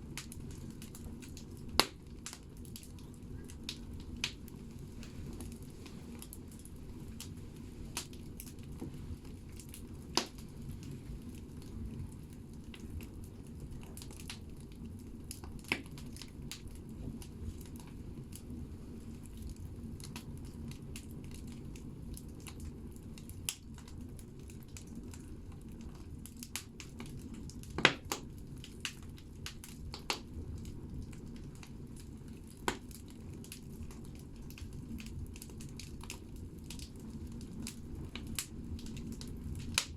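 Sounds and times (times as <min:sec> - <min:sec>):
burning logs crackling and popping: 0:00.0 - 0:39.9
fire rumbling in stove: 0:00.0 - 0:39.9.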